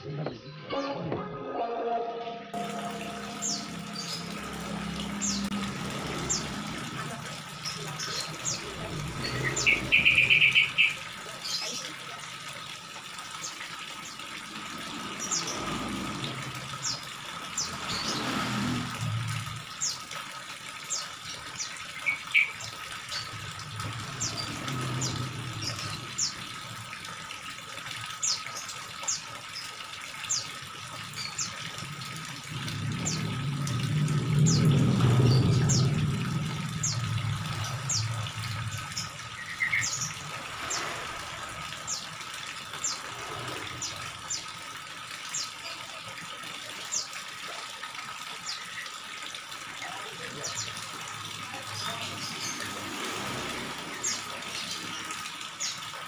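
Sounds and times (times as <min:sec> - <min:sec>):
hose water splashing into tank: 0:02.5 - 0:56.0.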